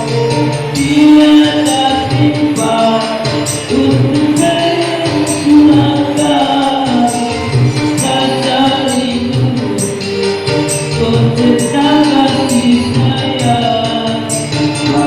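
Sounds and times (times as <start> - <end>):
music with sung notes: 0.0 - 15.0.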